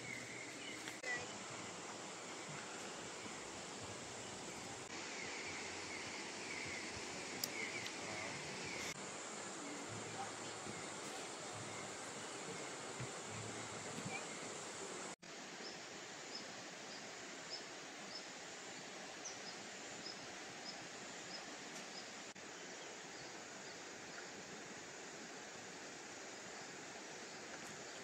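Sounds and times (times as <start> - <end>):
outdoor hiss: 0.0 - 28.0.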